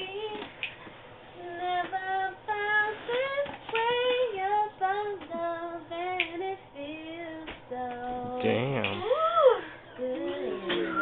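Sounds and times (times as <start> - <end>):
woman singing a wordless melody: 0.0 - 0.7, 1.4 - 11.0.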